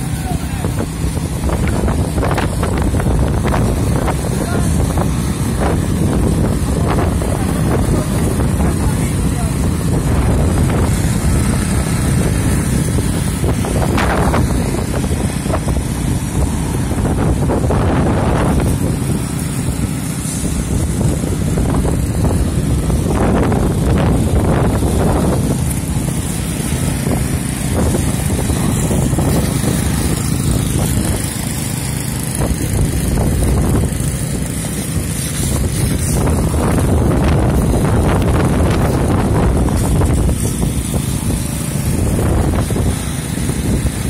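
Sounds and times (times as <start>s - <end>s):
power trowel engines running: 0.0s - 44.0s.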